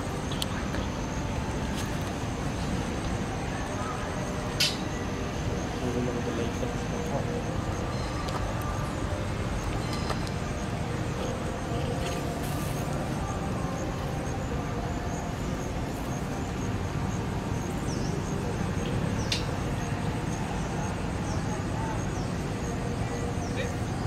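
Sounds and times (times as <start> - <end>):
low rumble with hiss: 0.0 - 24.0.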